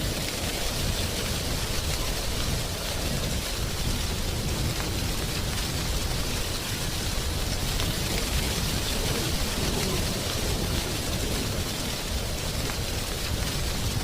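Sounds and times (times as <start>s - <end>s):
wind rustling dry leaves: 0.0s - 14.0s.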